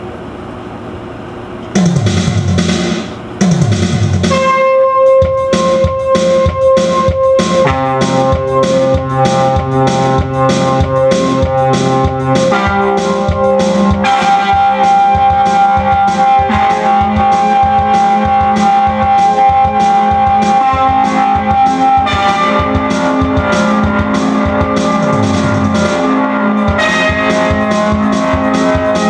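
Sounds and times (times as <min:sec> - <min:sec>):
instrumental keyboard music: 0:01.7 - 0:29.0.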